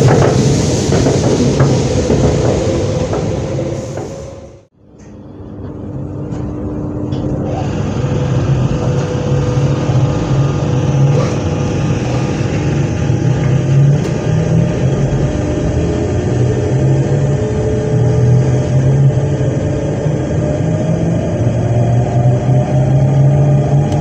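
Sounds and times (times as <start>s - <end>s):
rising whine: 0.0s - 24.0s
train electrical hum: 0.0s - 24.0s.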